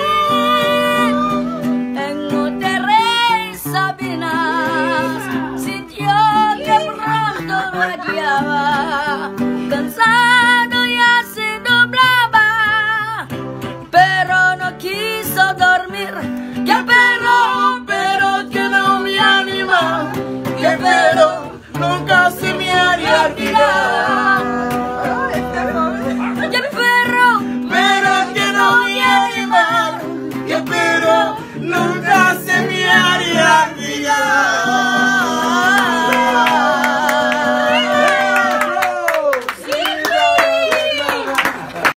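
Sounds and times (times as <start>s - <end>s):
person singing: 0.0s - 13.3s, 13.9s - 39.1s
strummed acoustic guitar: 0.0s - 38.6s.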